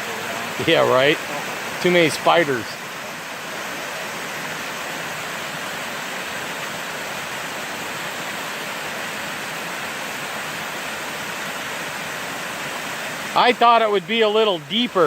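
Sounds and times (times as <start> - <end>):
water pouring over waterfall: 0.0 - 15.0.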